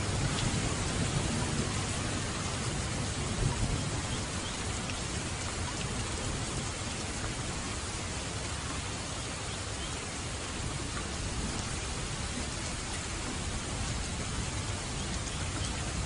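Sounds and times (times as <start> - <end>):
low rumble of thunder: 0.0 - 7.8, 10.6 - 16.0
steady rain falling: 0.0 - 16.0.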